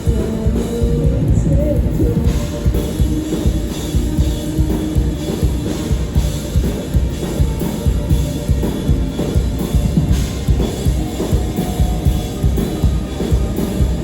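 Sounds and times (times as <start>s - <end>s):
band playing live: 0.0s - 14.0s.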